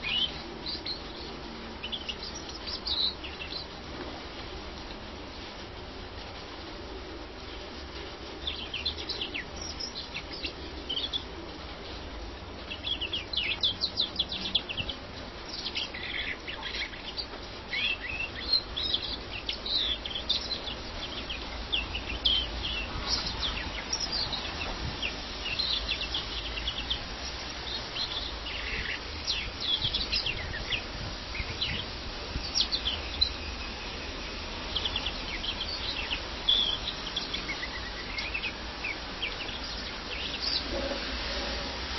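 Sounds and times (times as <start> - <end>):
finch singing chirps and trills: 0.0 - 3.8, 8.4 - 11.3, 12.6 - 40.8.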